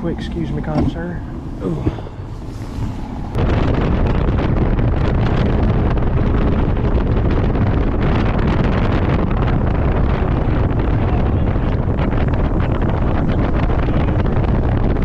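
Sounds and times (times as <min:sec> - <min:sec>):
boat running at speed: 0:00.0 - 0:15.0
wind buffeting microphone: 0:00.0 - 0:15.0.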